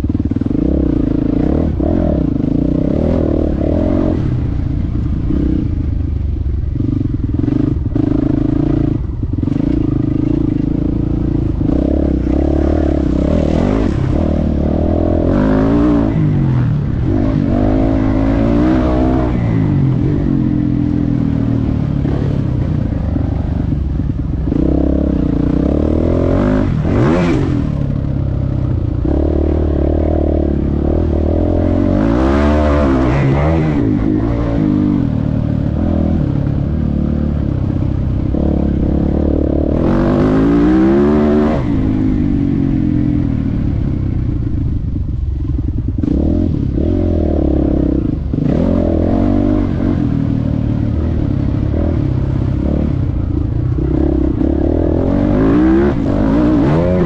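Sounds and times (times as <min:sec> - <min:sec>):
motocross bike engine revving: 0:00.0 - 0:06.0, 0:06.7 - 0:44.0, 0:45.6 - 0:57.0.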